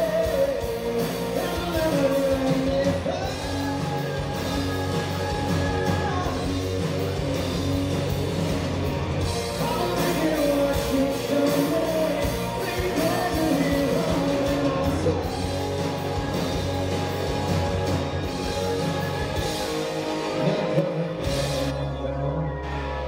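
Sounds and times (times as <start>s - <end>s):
man singing: 0.0s - 7.8s, 9.3s - 23.0s
drums: 0.0s - 23.0s
electric guitar: 0.0s - 23.0s.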